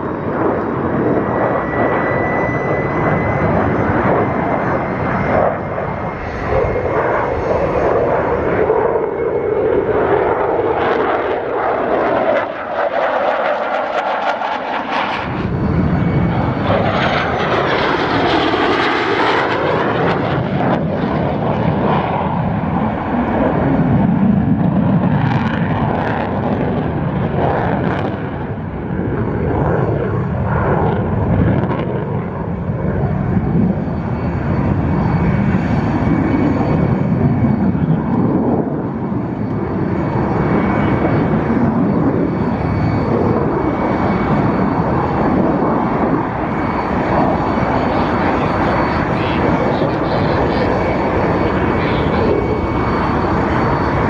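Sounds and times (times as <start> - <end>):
jet engine roaring: 0.0 - 54.0.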